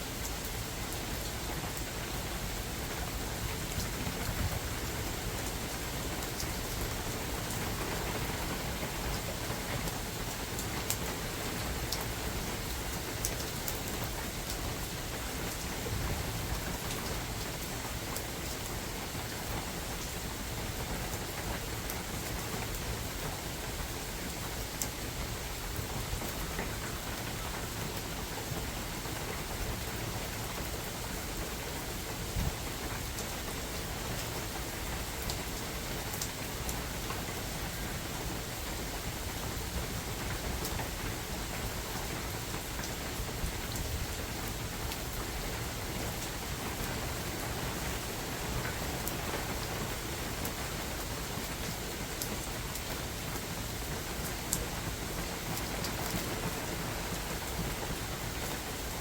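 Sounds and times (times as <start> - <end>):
rain falling on a forest: 0.0 - 59.0.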